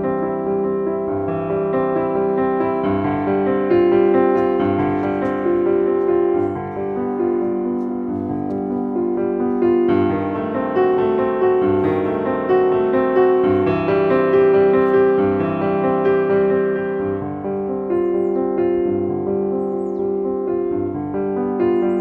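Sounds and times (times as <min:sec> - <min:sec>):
slow keyboard melody with chords: 0:00.0 - 0:22.0.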